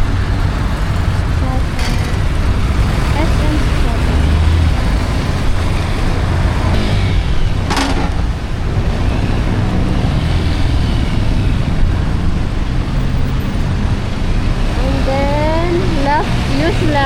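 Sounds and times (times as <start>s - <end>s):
motorcycle engine: 0.0s - 17.0s
road traffic noise: 0.0s - 17.0s.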